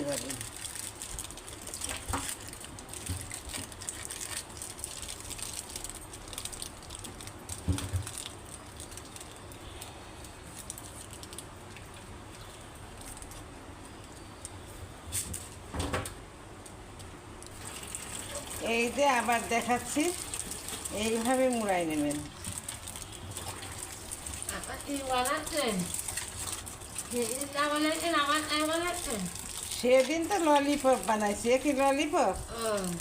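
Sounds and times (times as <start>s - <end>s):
aluminium foil crinkling: 0.0s - 15.6s, 17.0s - 33.0s.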